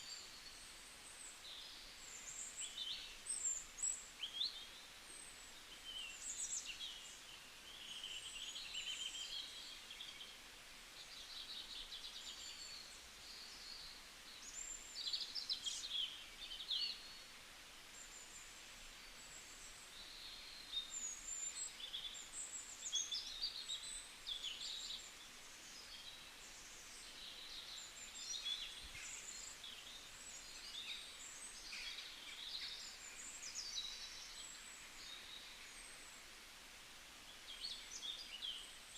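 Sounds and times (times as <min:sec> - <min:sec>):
faint steady hiss: 0:00.0 - 0:38.9
songbirds singing: 0:00.0 - 0:38.9.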